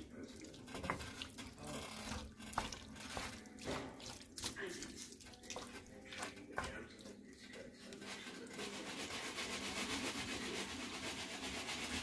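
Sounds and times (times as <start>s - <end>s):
wooden spoon scraping a skillet: 0.0s - 12.0s.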